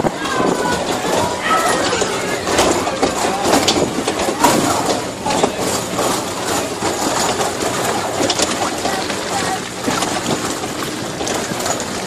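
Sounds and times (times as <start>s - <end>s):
carriages rattling and clattering: 0.0s - 12.0s
tractor engine running: 0.0s - 12.0s.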